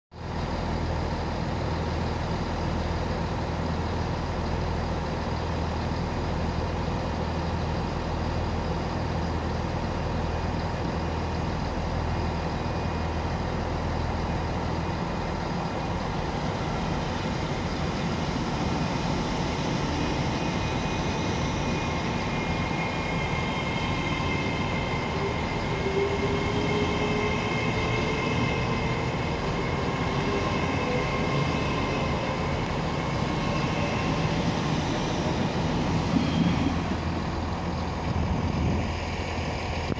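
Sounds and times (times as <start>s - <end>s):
rail running noise: 0.1s - 39.9s
train low hum: 0.1s - 39.9s.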